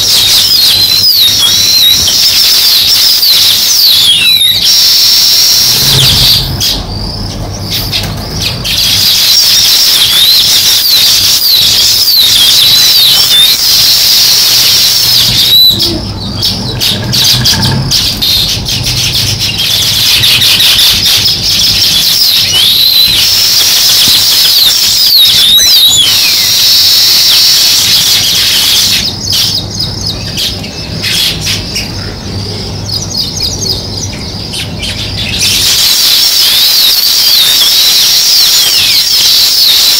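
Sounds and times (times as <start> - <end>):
sparrows chirping: 0.0 - 24.0, 27.7 - 36.1.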